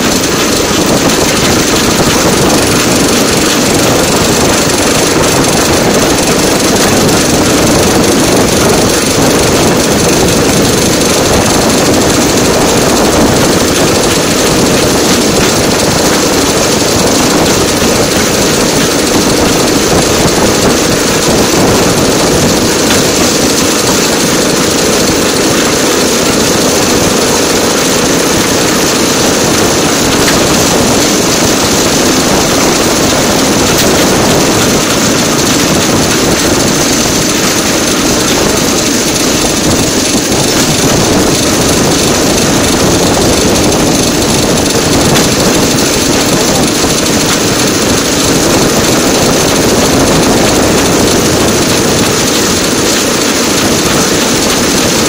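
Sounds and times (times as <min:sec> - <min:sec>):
rail vehicle engine noise: 0:00.0 - 0:55.0
wheels rumbling on rails: 0:00.0 - 0:55.0.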